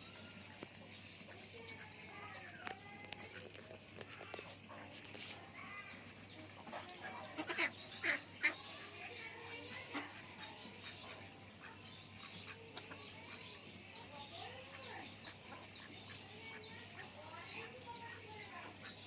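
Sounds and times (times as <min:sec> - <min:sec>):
small birds chirping: 0:00.0 - 0:19.0
ducks quacking: 0:01.2 - 0:19.0.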